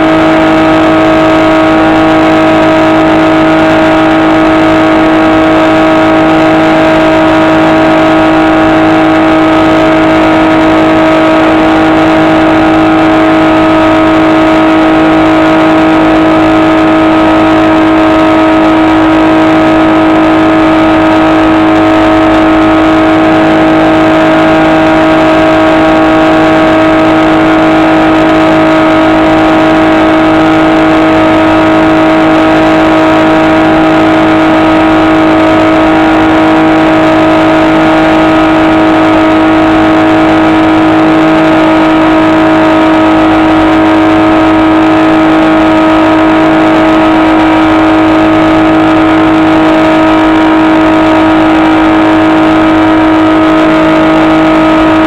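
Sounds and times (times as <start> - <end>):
model plane motor whine: 0.0 - 55.0.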